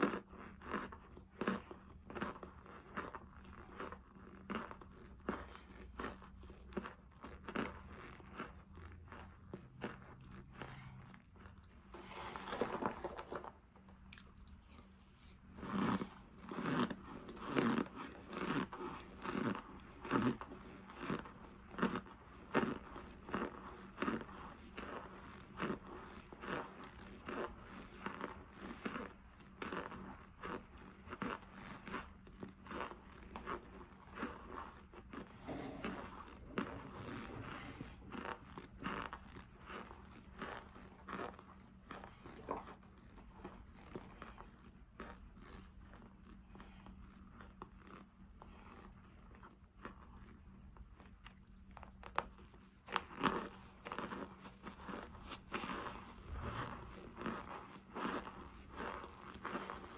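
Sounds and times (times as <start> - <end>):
crisp chewing crunches: 0.0 - 59.9.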